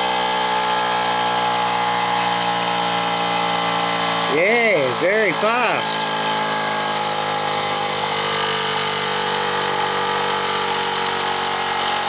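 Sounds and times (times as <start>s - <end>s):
toy steam engine whirring: 0.0s - 12.0s.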